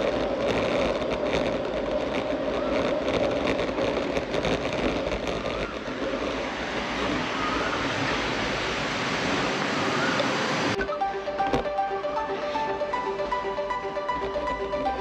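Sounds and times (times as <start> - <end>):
tyres rolling on pavement: 0.0 - 15.0
wind on microphone: 0.0 - 15.0.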